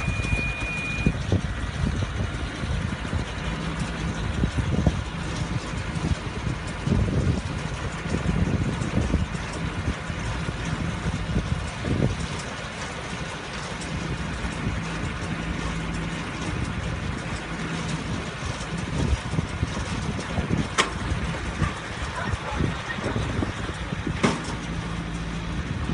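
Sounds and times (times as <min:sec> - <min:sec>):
baler mechanical drone: 0:00.0 - 0:25.9.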